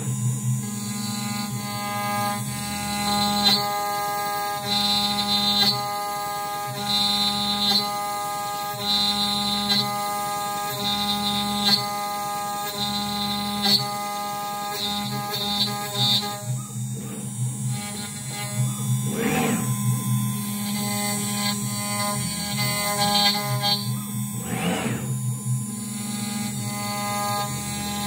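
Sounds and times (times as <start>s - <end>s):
cnc router spindle cutting wood: 0.0s - 28.0s
stepper motor axes whine: 0.0s - 28.0s.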